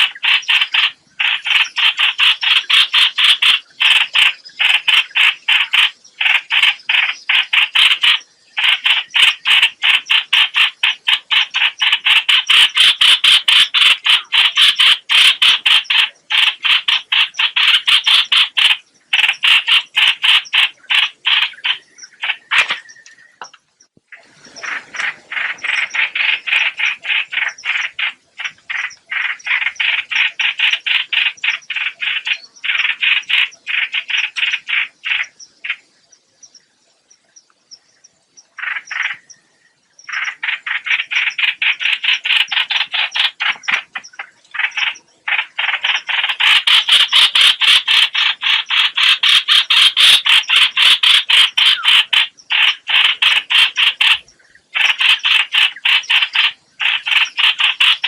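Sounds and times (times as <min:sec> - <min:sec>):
small bird chattering: 0:00.0 - 0:39.4, 0:40.0 - 0:58.0.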